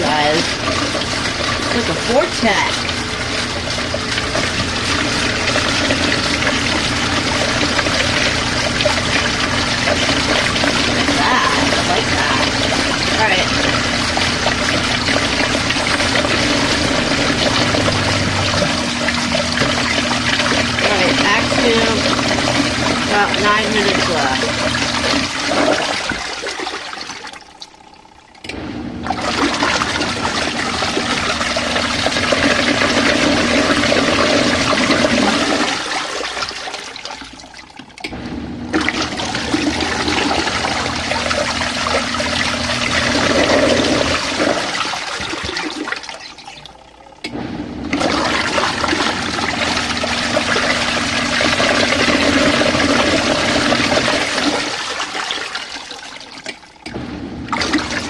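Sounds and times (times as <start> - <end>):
low motor hum: 0.0 - 26.4, 27.4 - 35.9, 37.3 - 45.6, 46.3 - 54.8, 56.7 - 58.0
water churning in washing machine: 0.0 - 58.0.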